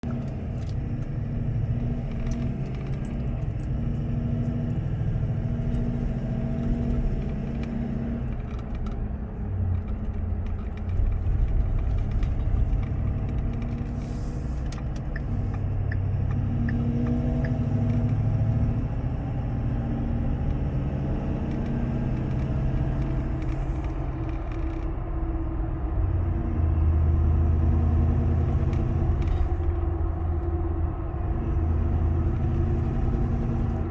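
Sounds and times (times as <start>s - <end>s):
diesel engine and road rumble: 0.0s - 33.9s
faint engine noise: 0.0s - 33.9s.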